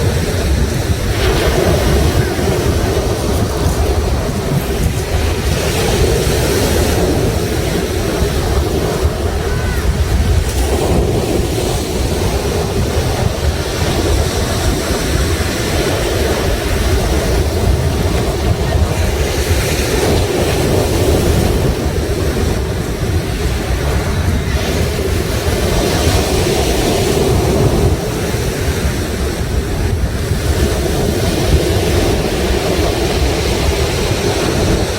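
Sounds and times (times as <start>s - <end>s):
sea waves washing on shore: 0.0s - 34.9s
wind buffeting microphone: 0.0s - 34.9s.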